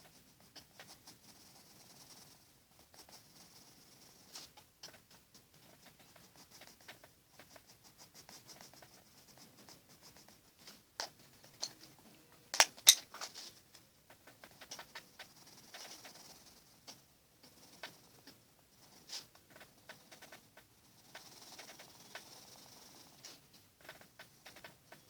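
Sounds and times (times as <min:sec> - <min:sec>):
pencil scratching on paper: 0:00.0 - 0:11.7, 0:12.8 - 0:25.0.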